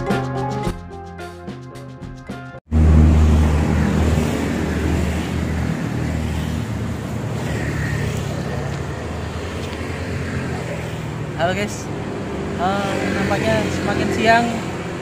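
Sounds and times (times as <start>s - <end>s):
road noise: 2.6s - 15.0s
vehicle engine humming: 2.7s - 15.0s.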